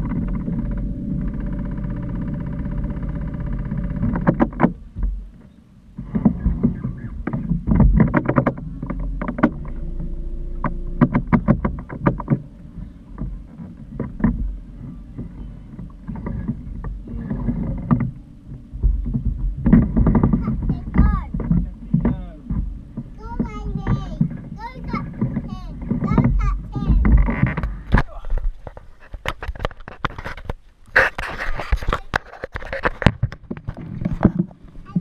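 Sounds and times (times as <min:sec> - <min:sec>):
boat motor humming: 0:00.0 - 0:31.1
sharp knocks and clatters: 0:00.0 - 0:35.0.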